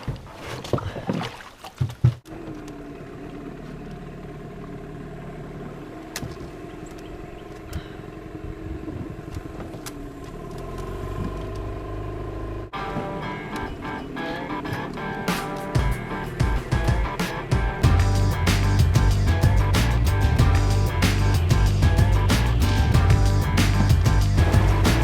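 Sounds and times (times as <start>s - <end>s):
outboard motor running: 2.2s - 25.0s.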